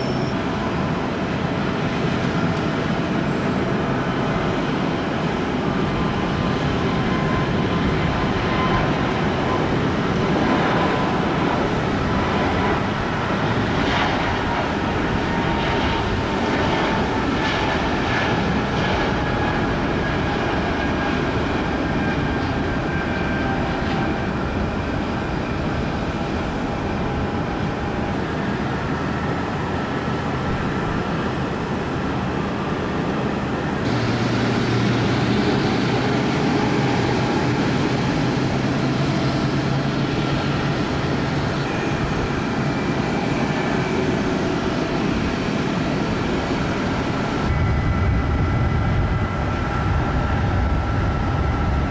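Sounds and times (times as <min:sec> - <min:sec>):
jet engines whining: 0:00.0 - 0:51.9.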